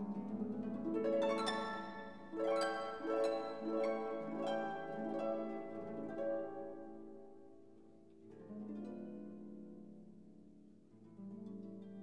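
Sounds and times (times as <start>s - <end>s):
plucked instrumental music: 0.0s - 12.0s.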